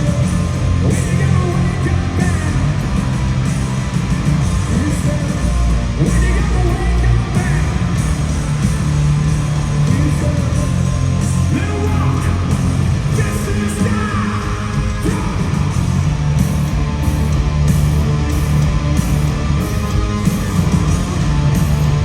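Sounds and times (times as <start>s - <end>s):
hard rock band playing: 0.0s - 22.0s.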